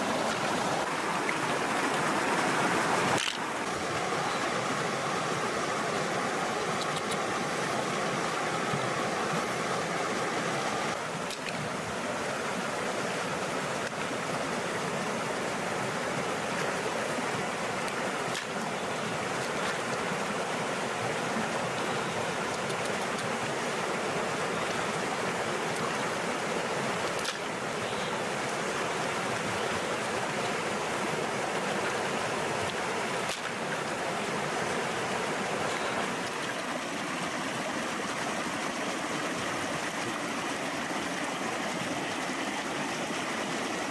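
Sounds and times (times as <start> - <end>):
stream flowing over stones: 0.0 - 43.9.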